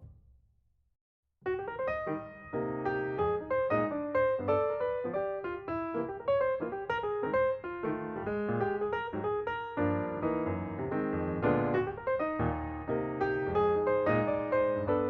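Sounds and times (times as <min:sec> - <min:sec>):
piano music: 0:01.4 - 0:15.0.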